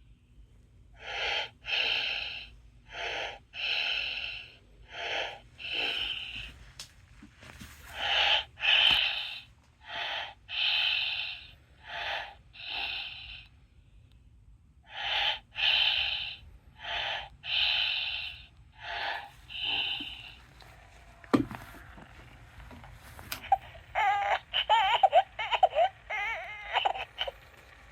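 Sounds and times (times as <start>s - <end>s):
baby doll breathing sounds: 1.0s - 13.6s, 14.8s - 27.9s.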